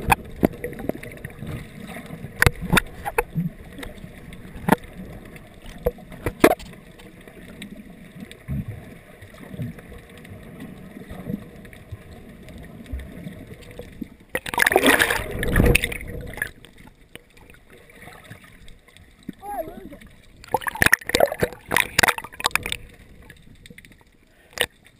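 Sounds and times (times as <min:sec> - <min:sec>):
bubbling and splashing: 0:00.0 - 0:24.9
muffled underwater rush: 0:00.0 - 0:24.9.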